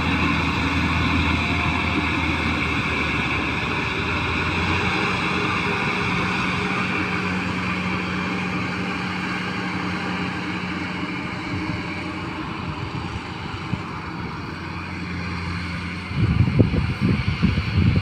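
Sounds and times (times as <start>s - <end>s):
combine harvester diesel engine: 0.0s - 18.0s.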